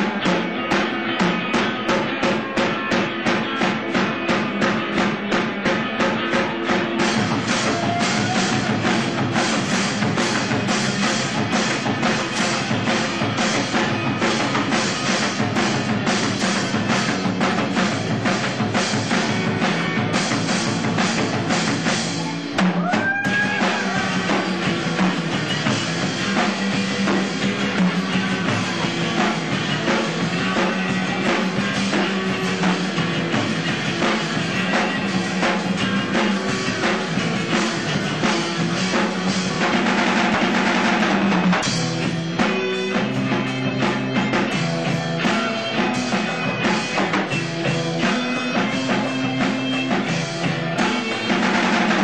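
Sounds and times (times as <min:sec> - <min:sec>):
drum kit beat: 0:00.0 - 0:52.0
live rock band playing: 0:00.0 - 0:52.0.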